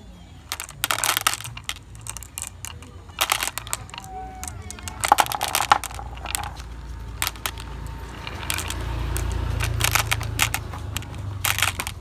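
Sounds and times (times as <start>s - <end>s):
glass marbles clicking: 0.4s - 12.0s.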